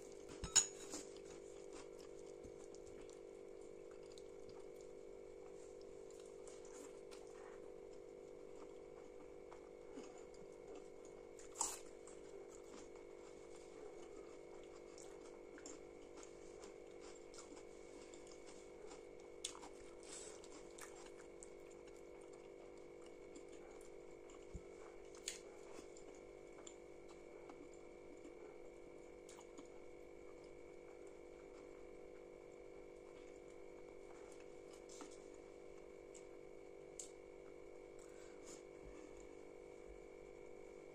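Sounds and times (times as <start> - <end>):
soft chewing and mouth noises: 0.0 - 40.9
steady low hum: 0.0 - 40.9.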